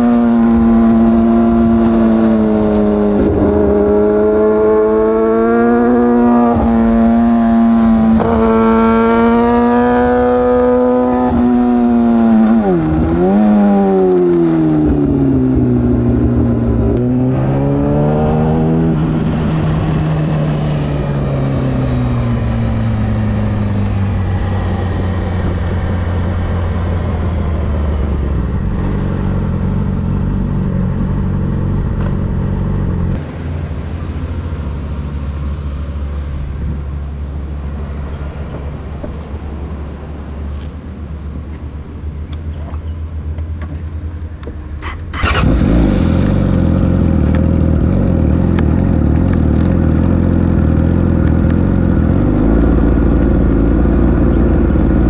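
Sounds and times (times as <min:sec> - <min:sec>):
motorcycle engine revving: 0:00.0 - 0:37.0, 0:44.8 - 0:55.0.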